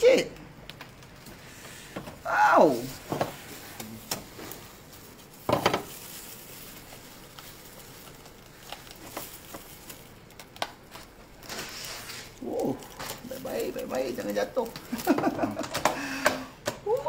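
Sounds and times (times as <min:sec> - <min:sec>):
husk tearing and creaking: 0:00.6 - 0:15.8.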